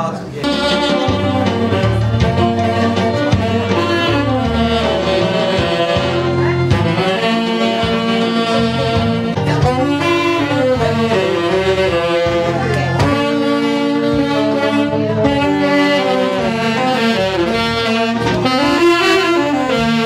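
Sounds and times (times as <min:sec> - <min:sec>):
saxophones playing tune: 0:00.3 - 0:20.0.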